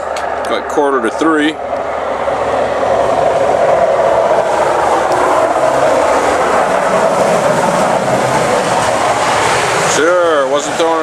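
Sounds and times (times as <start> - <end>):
snowplow truck passing: 0.0 - 11.0.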